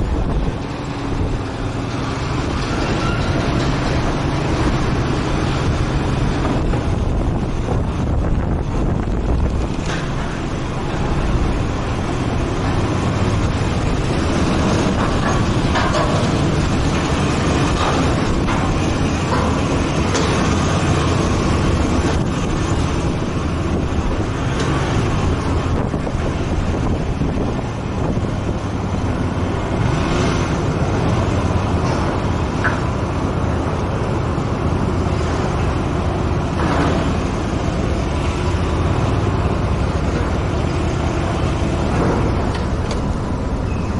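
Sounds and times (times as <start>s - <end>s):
road and wind noise: 0.0s - 43.9s.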